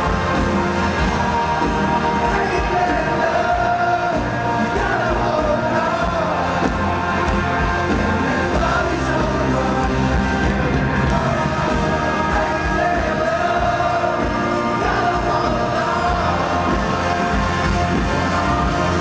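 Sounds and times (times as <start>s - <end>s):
lead vocal singing: 0.0s - 19.0s
live rock band playing: 0.0s - 19.0s.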